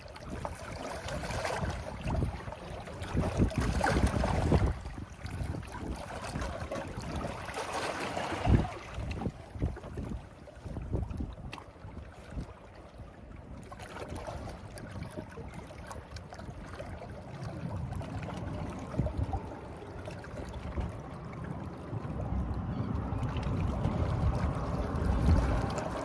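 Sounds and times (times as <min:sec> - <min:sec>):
water lapping and trickling: 0:00.0 - 0:26.0
wind rumbling on microphone: 0:00.0 - 0:26.0.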